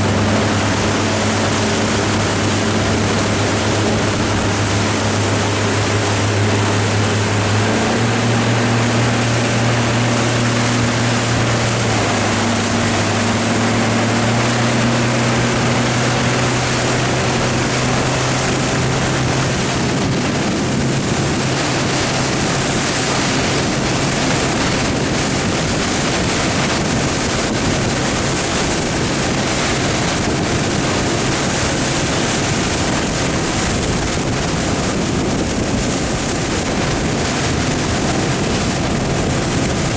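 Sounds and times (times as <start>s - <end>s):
boat engine running: 0.0s - 39.9s
rushing water: 0.0s - 39.9s
wind: 0.0s - 39.9s.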